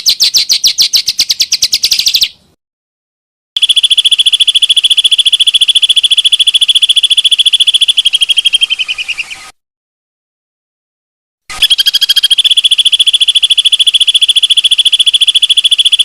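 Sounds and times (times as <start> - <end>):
songbird rapid trill: 0.0 - 2.4, 3.6 - 9.6, 11.5 - 16.0.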